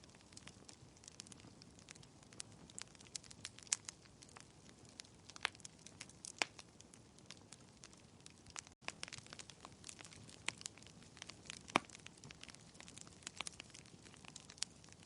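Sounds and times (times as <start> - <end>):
low rush of flames: 0.0 - 15.0
wood fire pops and snaps: 0.0 - 15.0.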